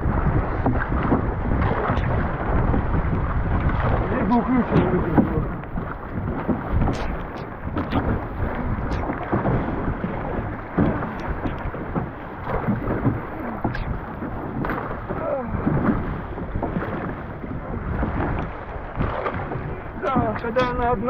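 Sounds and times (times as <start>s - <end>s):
waves slapping against boat hull: 0.0s - 21.0s
wind buffeting microphone: 0.0s - 21.0s.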